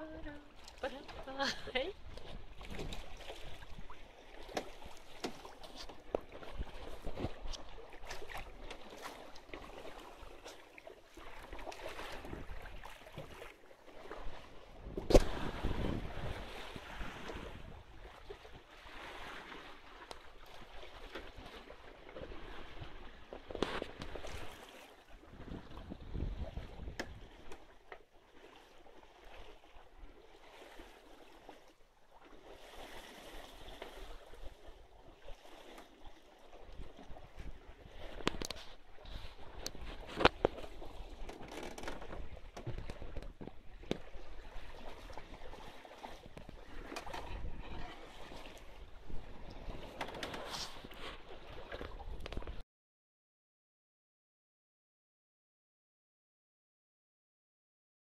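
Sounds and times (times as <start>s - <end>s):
water lapping against boat hull: 0.0s - 52.6s.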